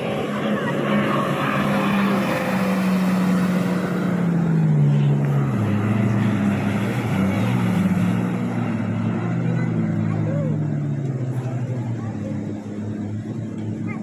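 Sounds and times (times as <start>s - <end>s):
jet ski engine: 0.0s - 14.0s.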